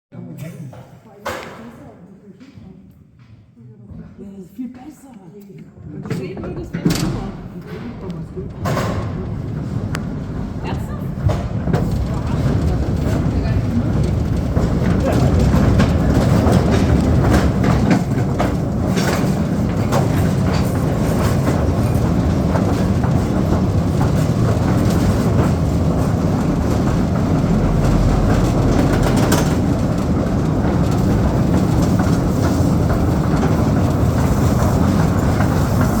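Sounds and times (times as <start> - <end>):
mine train rumbling: 5.8 - 36.0
wheels and wagons clicking: 5.8 - 36.0.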